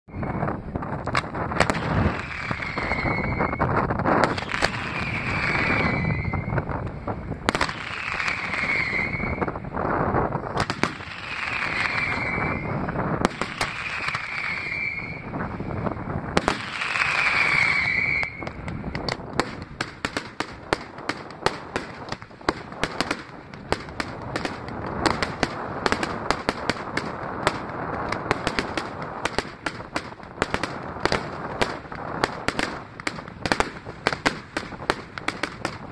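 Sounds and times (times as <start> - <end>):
firework whistles: 0.0 - 35.9
wind on microphone: 0.0 - 35.9
firework bangs: 0.1 - 35.9
fireworks crackling and popping: 0.1 - 35.9.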